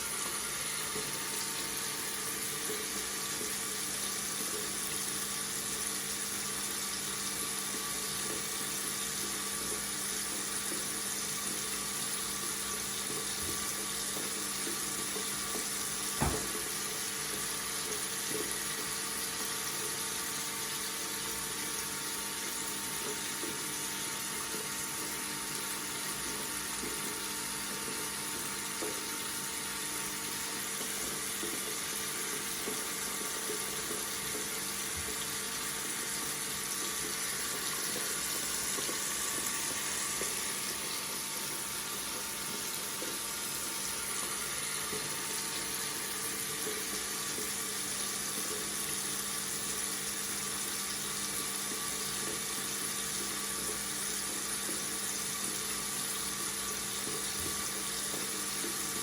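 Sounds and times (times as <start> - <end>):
tap water running into sink: 0.0 - 59.0.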